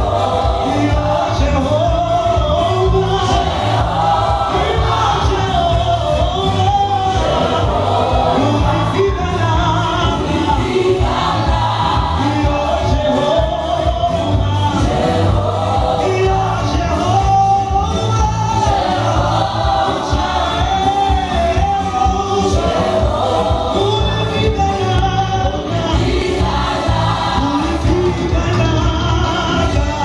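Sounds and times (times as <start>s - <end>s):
choir singing gospel music: 0.0s - 30.0s.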